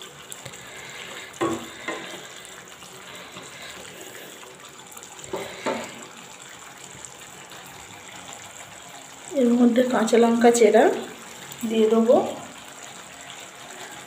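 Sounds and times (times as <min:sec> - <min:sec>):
gravy simmering and sizzling: 0:00.0 - 0:14.0.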